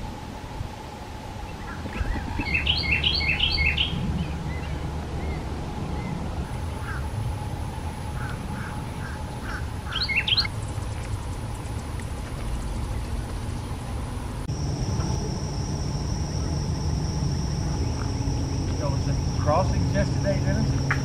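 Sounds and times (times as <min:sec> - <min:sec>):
birds chirping: 0:01.4 - 0:21.0.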